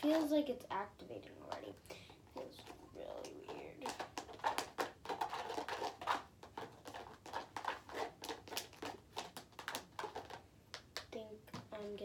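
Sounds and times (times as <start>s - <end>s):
plastic spoon stirring slime in bowl: 0.0s - 12.0s.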